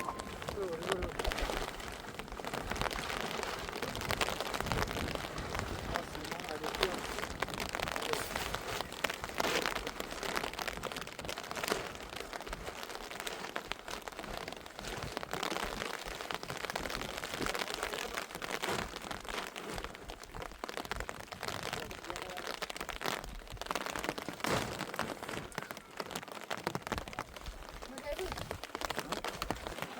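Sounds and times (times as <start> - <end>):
rain falling: 0.0 - 29.9
raindrops ticking: 0.0 - 29.9.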